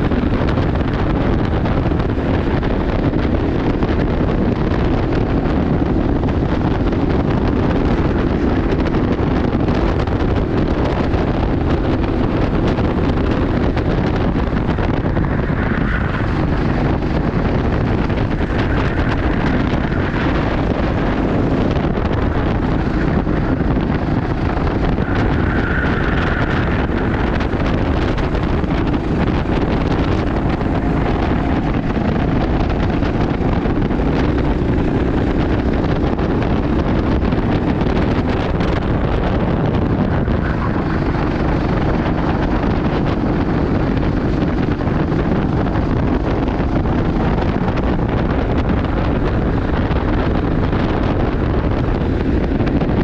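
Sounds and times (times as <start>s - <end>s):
wind buffeting on microphone: 0.0s - 53.0s.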